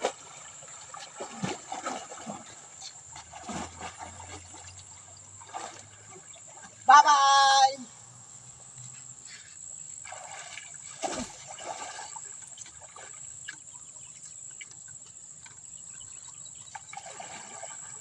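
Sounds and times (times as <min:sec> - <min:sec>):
water sloshing and splashing: 0:00.0 - 0:06.9, 0:09.9 - 0:18.0.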